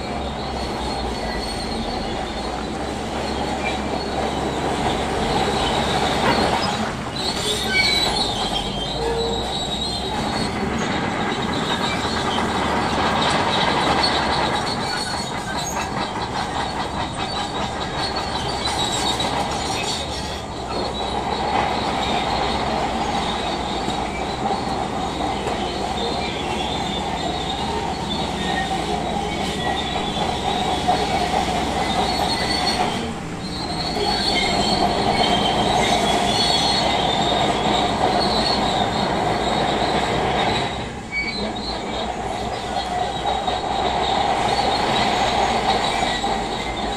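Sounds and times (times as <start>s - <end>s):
bulldozer engine running: 0.0s - 46.9s
bulldozer tracks squealing and clanking: 0.0s - 46.9s.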